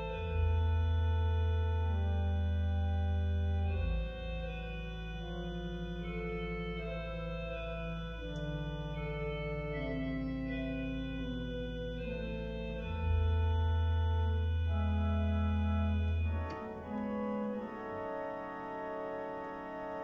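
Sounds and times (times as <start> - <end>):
church organ chords: 0.0 - 20.0
deep organ pedal note: 0.0 - 20.0.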